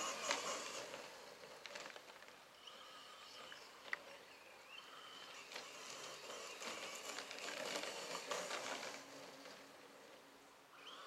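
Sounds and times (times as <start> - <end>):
toy truck driving over grass: 0.0 - 10.2.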